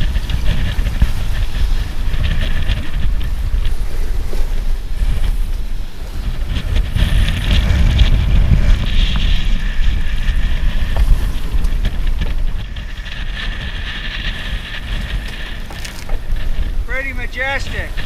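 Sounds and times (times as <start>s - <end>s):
wind buffeting microphone: 0.0s - 18.0s
wind whistling in rigging: 0.0s - 18.0s.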